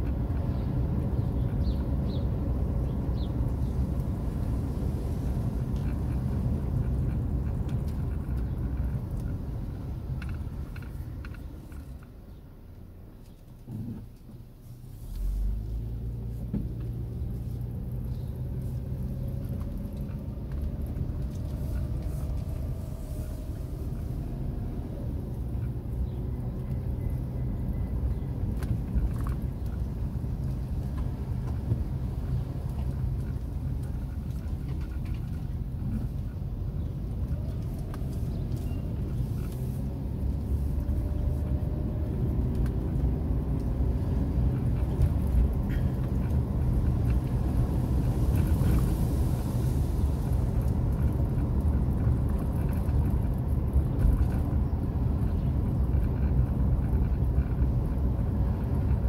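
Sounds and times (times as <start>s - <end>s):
car engine: 0.0s - 59.0s
road rumble: 0.0s - 59.0s.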